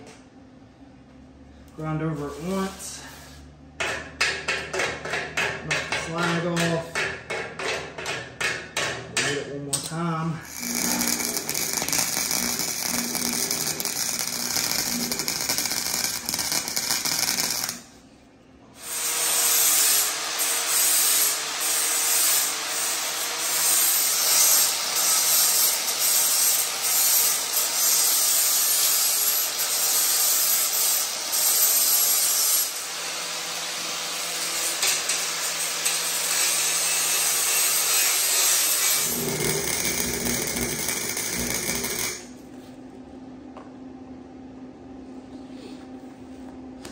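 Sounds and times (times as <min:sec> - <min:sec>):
arc welder crackling: 0:03.8 - 0:18.0, 0:18.8 - 0:42.5.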